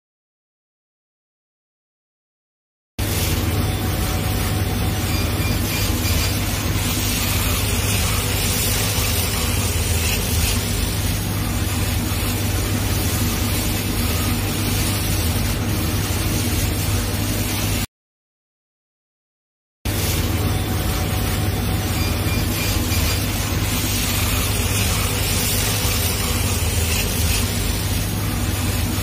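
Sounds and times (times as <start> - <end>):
laser cutting machine running: 3.0 - 17.9, 19.9 - 29.0.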